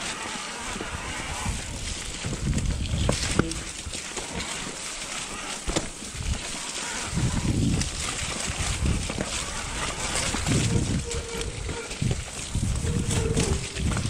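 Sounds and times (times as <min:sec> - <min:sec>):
bike tyres hissing through mud: 0:00.0 - 0:14.0
wind rumble on microphone: 0:00.7 - 0:04.0, 0:05.8 - 0:14.0.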